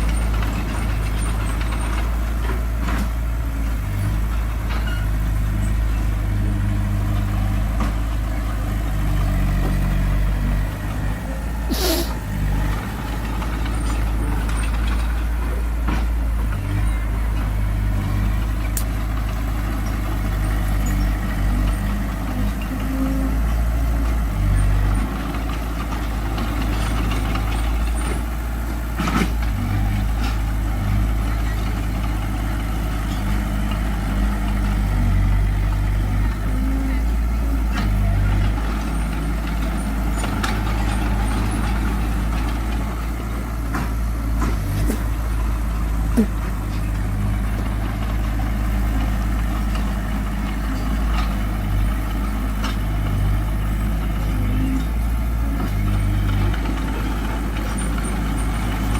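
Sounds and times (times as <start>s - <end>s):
diesel machinery engine droning: 0.0s - 58.9s.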